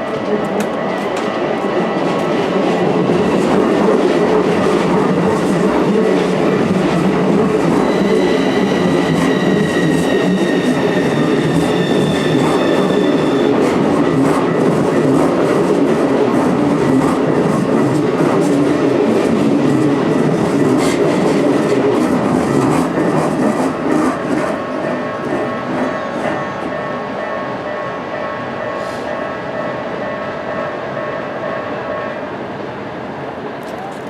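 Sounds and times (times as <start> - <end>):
train wheels clattering on rails: 0.0 - 31.7.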